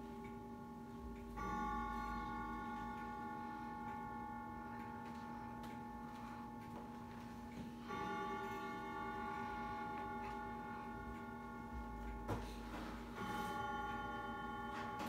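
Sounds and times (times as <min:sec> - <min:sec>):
grandfather clock chiming: 0:00.0 - 0:15.0.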